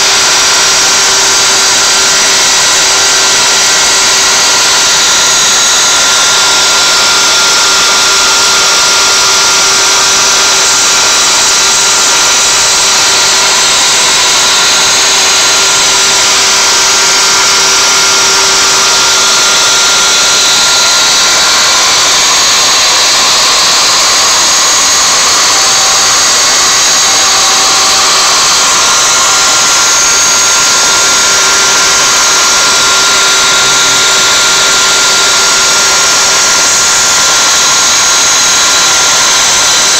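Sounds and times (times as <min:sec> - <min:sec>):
router spindle whining while cutting wood: 0:00.0 - 0:39.9.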